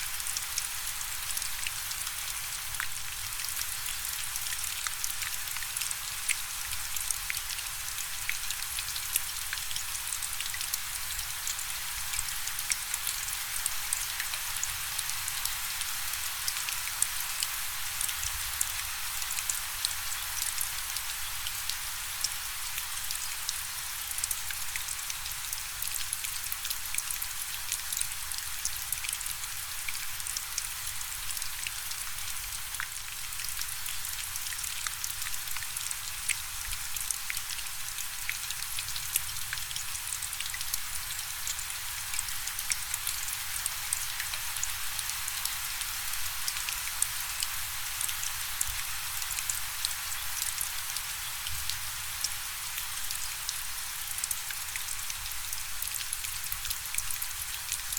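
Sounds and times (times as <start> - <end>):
raindrops ticking on a surface: 0.0 - 57.9
steady rain falling: 0.0 - 57.9.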